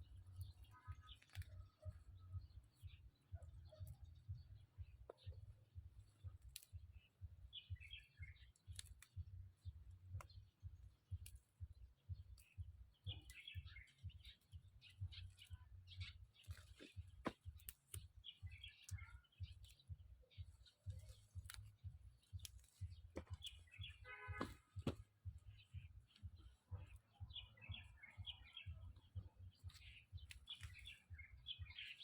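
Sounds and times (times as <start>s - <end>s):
low rumble: 0.0s - 16.4s, 17.0s - 31.7s
faint bird chirps: 0.0s - 32.0s.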